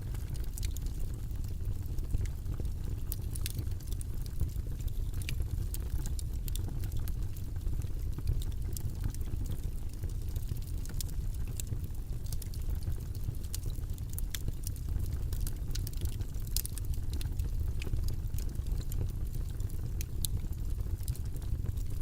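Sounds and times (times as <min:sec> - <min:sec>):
low rumbling white noise: 0:00.0 - 0:22.0.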